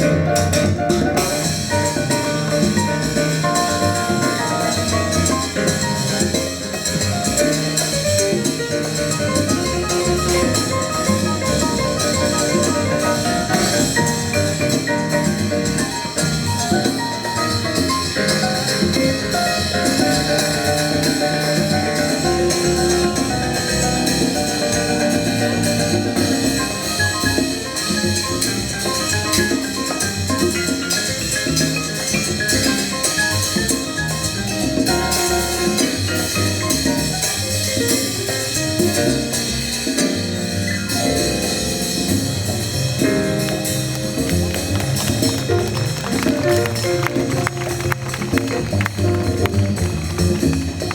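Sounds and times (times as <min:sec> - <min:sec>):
latin jazz band playing: 0:00.0 - 0:50.9
percussion steady beat: 0:00.0 - 0:50.9.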